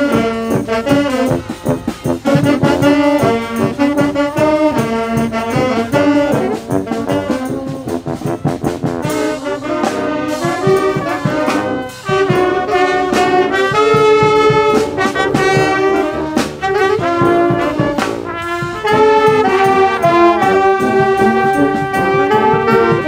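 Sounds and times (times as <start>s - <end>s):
brass band playing: 0.0s - 23.0s
steady drum beat: 0.0s - 23.0s.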